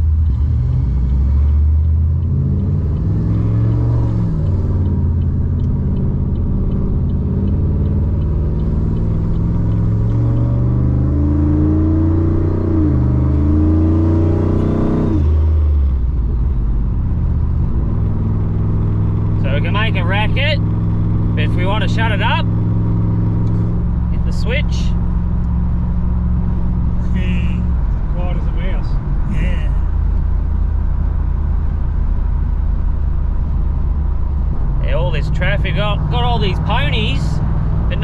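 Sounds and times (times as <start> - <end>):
car engine revving unmuffled: 0.0 - 38.0.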